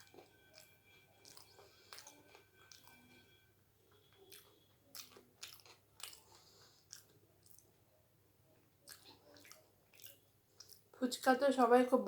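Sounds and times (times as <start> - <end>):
quiet chewing: 0.0 - 11.0.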